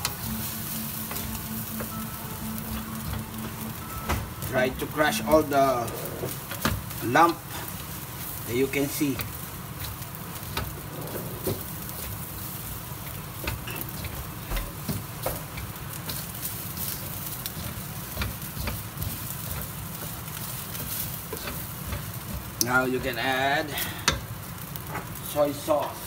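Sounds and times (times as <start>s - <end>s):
fried rice sizzling in a pan: 0.0s - 26.0s.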